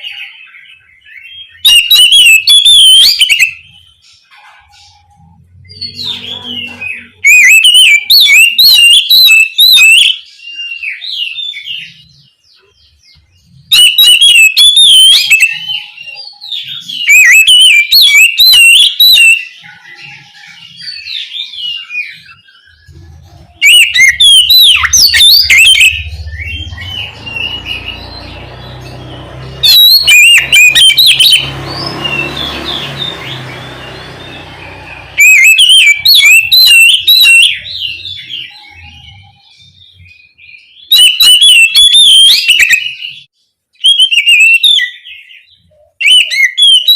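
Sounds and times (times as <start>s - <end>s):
bird singing whistled phrases: 0.0s - 46.9s.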